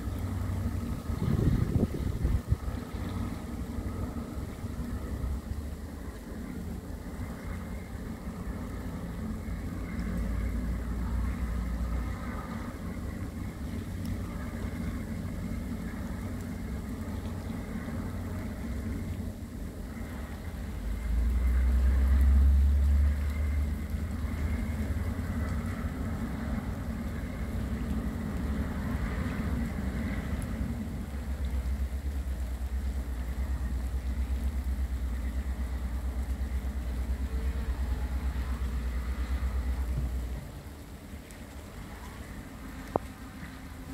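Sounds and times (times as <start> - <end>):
diesel engine low drone: 0.0 - 43.9.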